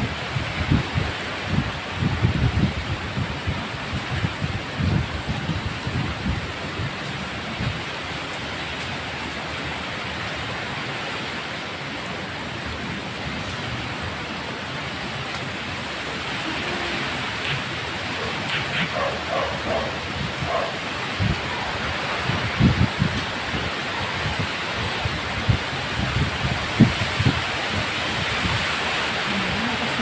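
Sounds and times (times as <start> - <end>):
rain and wind through trees: 0.0 - 30.0
wind gusts rumbling on microphone: 0.0 - 30.0.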